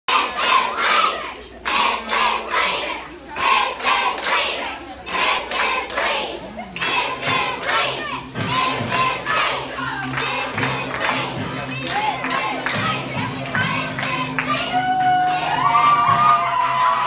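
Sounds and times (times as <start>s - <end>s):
children chanting: 0.1s - 14.8s
children clapping in rhythm: 0.2s - 1.0s, 1.6s - 2.7s, 3.4s - 16.6s.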